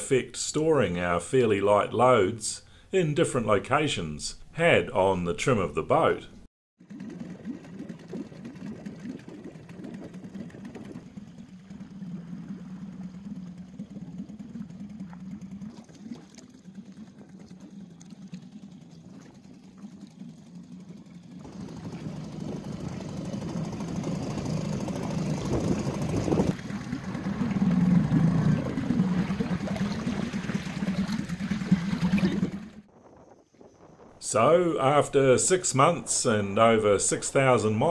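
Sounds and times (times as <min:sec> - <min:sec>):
boat engine running: 0:00.0 - 0:37.9.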